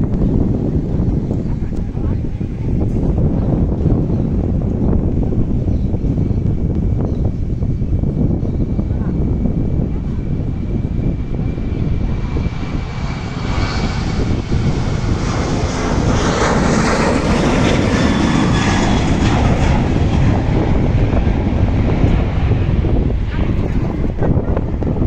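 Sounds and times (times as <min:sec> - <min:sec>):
jet engines at takeoff power: 0:00.0 - 0:25.0.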